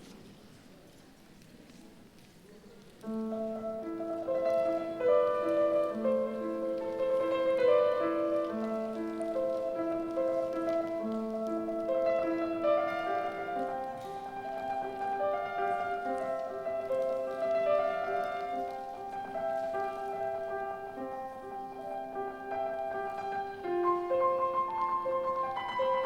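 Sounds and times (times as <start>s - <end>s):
slow classical piano: 0.0s - 26.0s.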